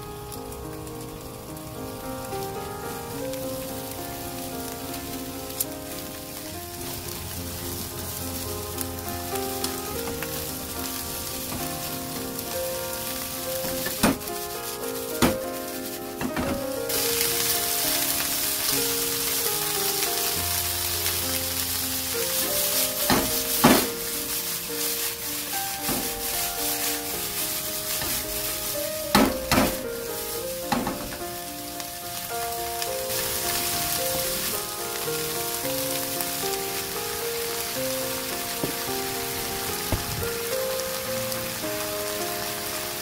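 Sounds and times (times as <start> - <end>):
peppers sizzling in a pan: 0.0 - 43.0
quiet background music: 0.0 - 43.0.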